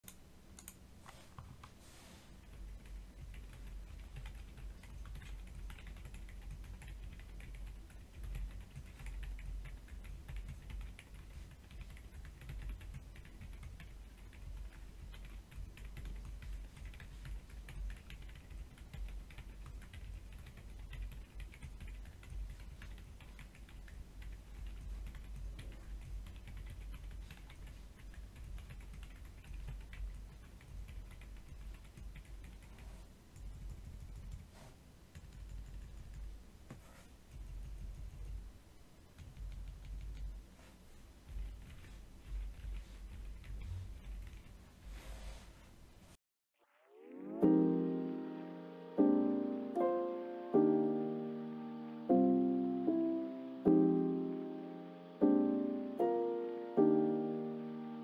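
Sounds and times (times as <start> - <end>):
soft keyboard typing: 0.0 - 1.8, 2.4 - 38.5, 39.1 - 45.0, 47.4 - 58.0.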